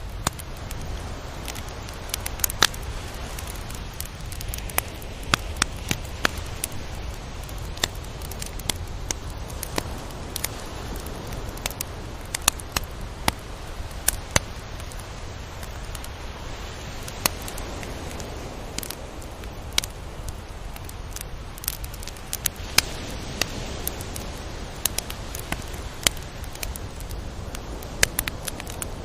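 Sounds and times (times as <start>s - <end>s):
sharp clicks and crackles: 0.0s - 16.2s, 17.0s - 29.0s
surf washing: 0.0s - 29.0s.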